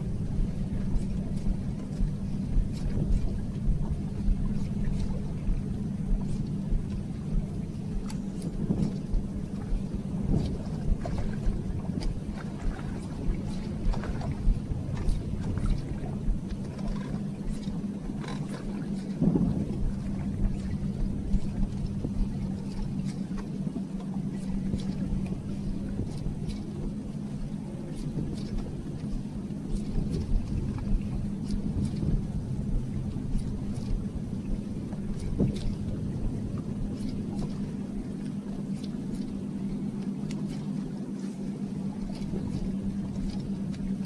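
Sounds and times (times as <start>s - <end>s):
electric boat motor humming: 0.0s - 44.0s
wind and water rumble: 0.0s - 44.0s.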